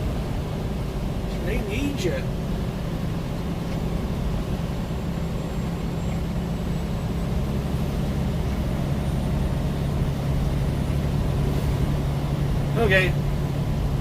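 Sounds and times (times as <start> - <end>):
truck diesel engine running: 0.0 - 14.0
tyre and road noise: 0.0 - 14.0.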